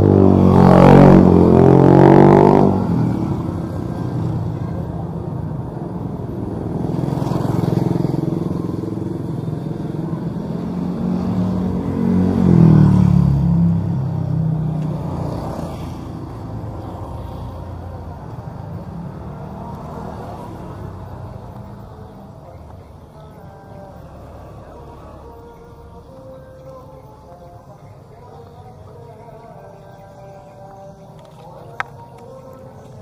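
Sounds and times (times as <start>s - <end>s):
small motorbike engines passing: 0.0s - 33.0s.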